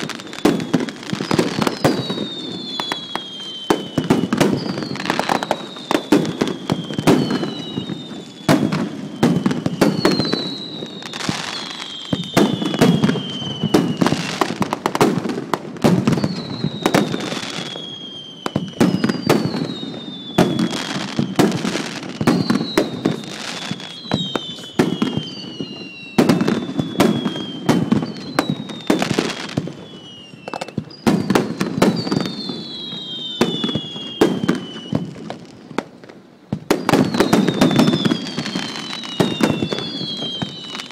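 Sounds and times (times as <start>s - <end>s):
falling firework whistles: 0.0s - 40.9s.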